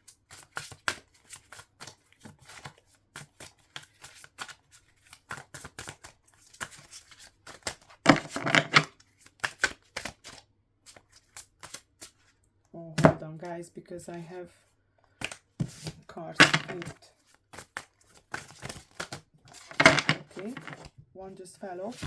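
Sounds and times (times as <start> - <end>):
cards being shuffled: 0.3 - 12.2, 15.2 - 20.9.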